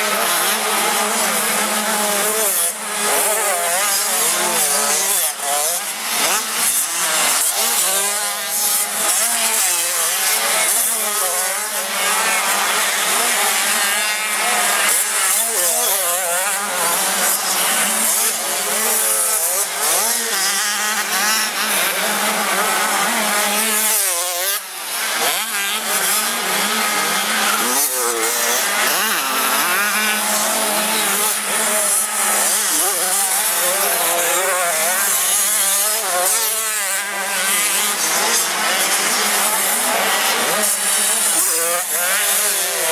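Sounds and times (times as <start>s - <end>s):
motocross bikes racing: 0.0s - 42.9s.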